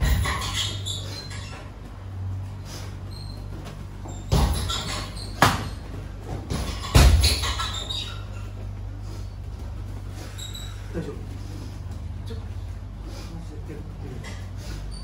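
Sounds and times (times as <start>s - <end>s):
bare feet squeaking on mat: 0.0s - 12.7s
steady low hum: 0.0s - 15.0s.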